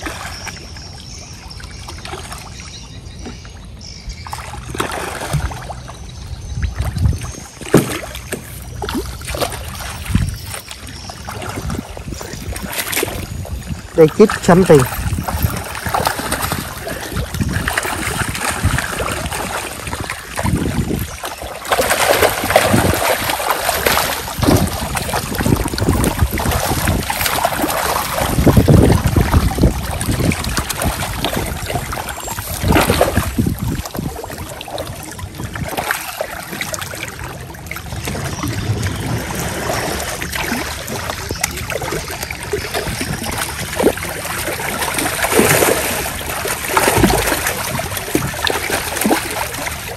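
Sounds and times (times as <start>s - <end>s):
fish thrashing and splashing: 0.0s - 49.9s.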